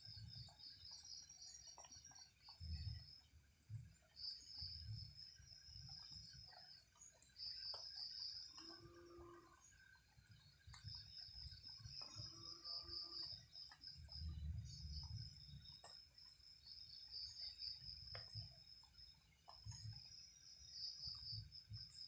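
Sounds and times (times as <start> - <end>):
soft low rumbles: 0.0 - 8.4, 9.7 - 22.0
night insects trilling: 4.1 - 22.0.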